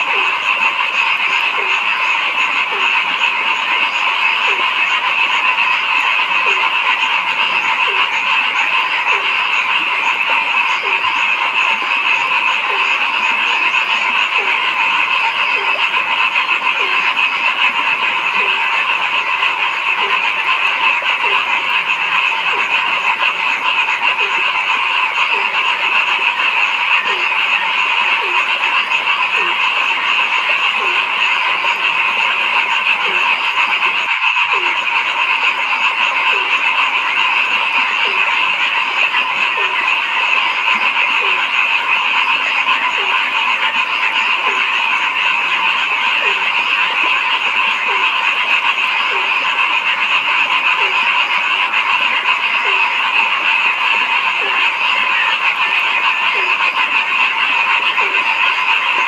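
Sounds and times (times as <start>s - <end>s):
chorus of calling frogs: 0.0s - 59.0s
low frog call: 0.0s - 59.0s.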